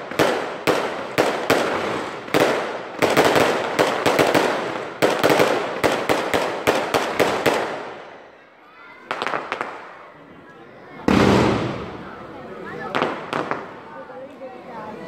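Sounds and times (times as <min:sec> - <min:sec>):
fireworks bangs: 0:00.0 - 0:08.2, 0:09.0 - 0:10.4, 0:11.0 - 0:14.1
fireworks crackling: 0:00.0 - 0:08.2, 0:09.0 - 0:10.2, 0:11.0 - 0:14.4.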